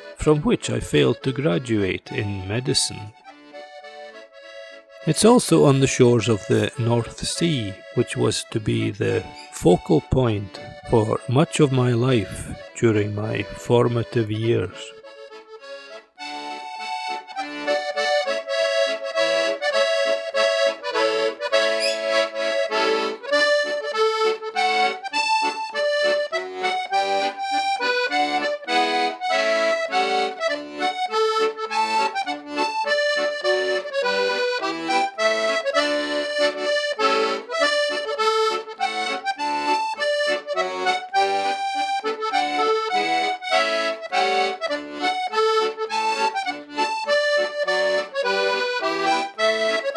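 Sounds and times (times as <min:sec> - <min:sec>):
accordion music: 0:00.0 - 0:49.9.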